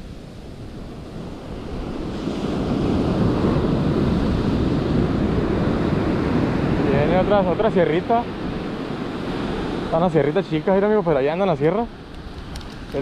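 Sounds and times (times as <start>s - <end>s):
surf breaking on beach: 0.0s - 11.2s
wind buffeting microphone: 0.0s - 13.0s.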